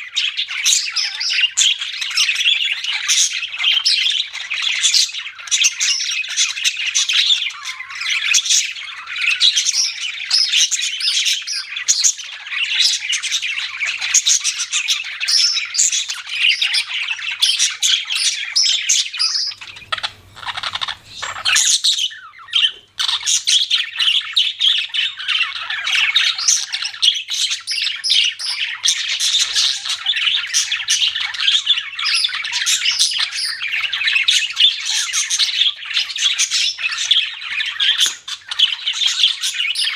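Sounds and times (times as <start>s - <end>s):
budgies chirping: 0.0s - 39.9s.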